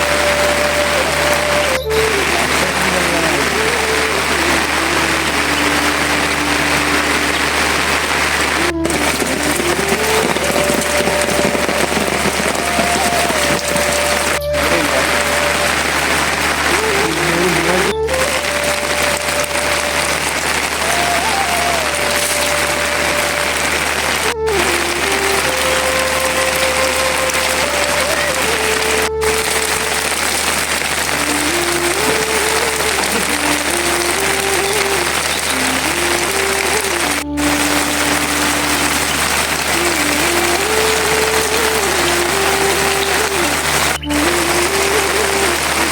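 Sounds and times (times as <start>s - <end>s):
heavy rain hiss: 0.0s - 45.9s
slow single-line melody: 0.0s - 45.9s.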